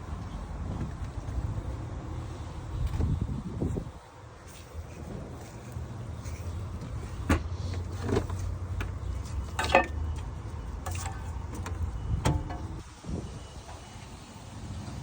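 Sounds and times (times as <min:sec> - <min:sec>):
engine running low hum: 0:00.0 - 0:15.0.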